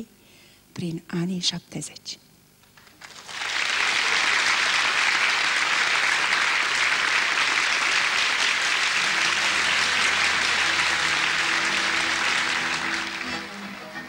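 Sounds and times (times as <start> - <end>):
audience applauding: 2.7 - 14.0.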